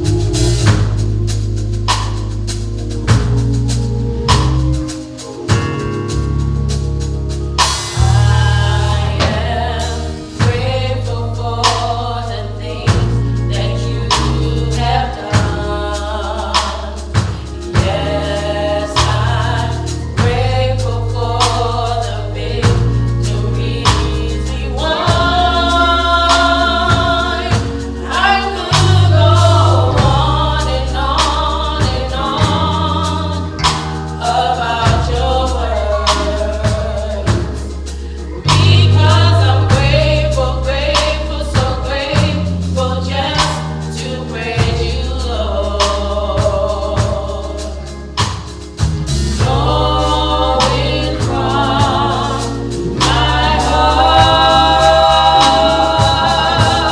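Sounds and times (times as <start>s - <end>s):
bass: 0.0s - 56.9s
drum beats: 0.0s - 56.9s
gospel choir singing: 0.0s - 56.9s.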